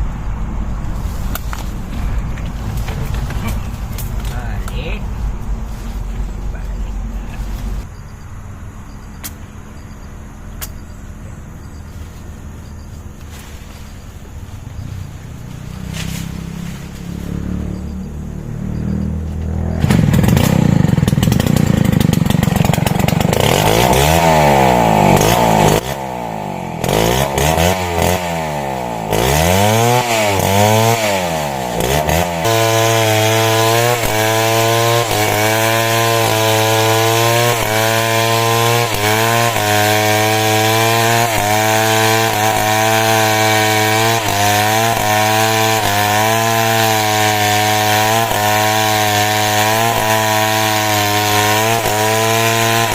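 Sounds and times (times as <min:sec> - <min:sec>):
small petrol engine revving: 0:09.4 - 0:52.9.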